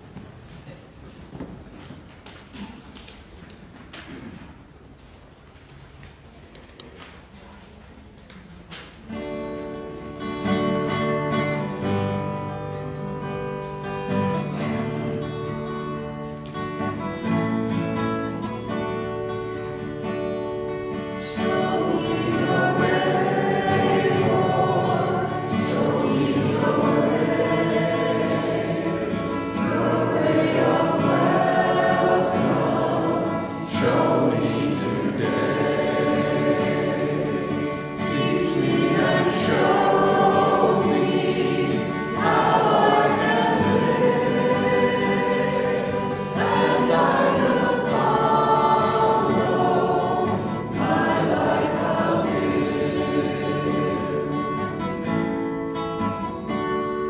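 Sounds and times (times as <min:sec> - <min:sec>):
congregation singing a hymn: 0:09.2 - 0:56.8.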